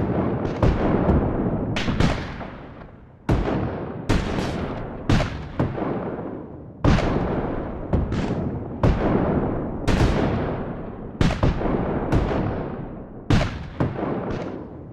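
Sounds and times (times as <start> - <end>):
cannon shots echoing: 0.0 - 14.9.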